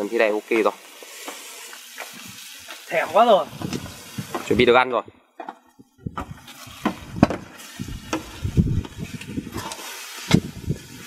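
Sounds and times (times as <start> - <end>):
eggs sizzling on metal tray: 0.0 - 4.7, 6.4 - 11.0.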